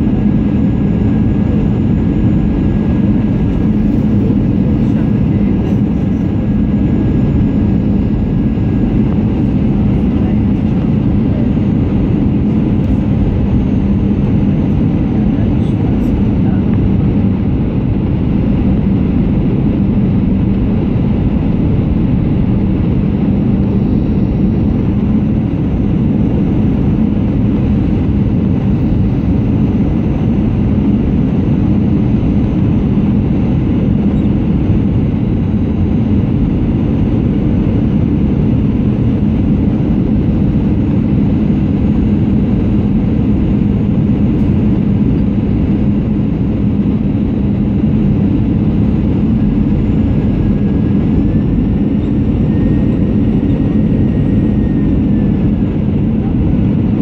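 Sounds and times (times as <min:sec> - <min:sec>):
aircraft engines rumbling: 0:00.0 - 0:57.0
steady low hum: 0:00.0 - 0:57.0.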